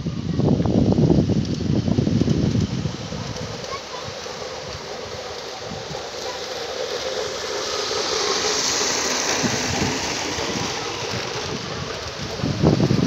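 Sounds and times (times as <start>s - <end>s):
model train rumbling on track: 0.0s - 13.0s.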